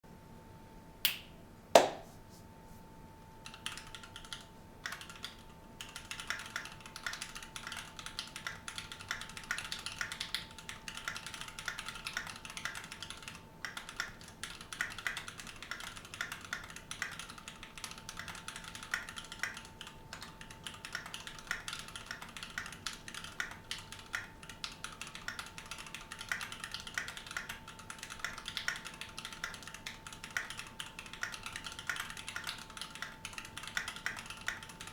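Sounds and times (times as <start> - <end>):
faint steady hum: 0.1 - 34.9
mechanical keyboard typing: 3.4 - 34.9.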